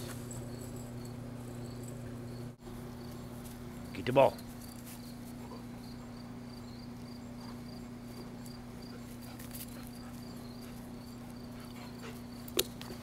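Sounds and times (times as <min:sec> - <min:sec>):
steady low hum: 0:00.0 - 0:13.0
insects chirping: 0:00.1 - 0:13.0.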